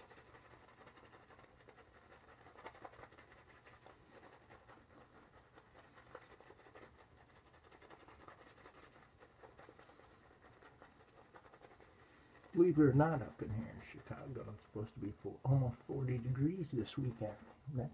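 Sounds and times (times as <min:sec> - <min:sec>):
shaving brush swishing lather: 0:00.0 - 0:17.9.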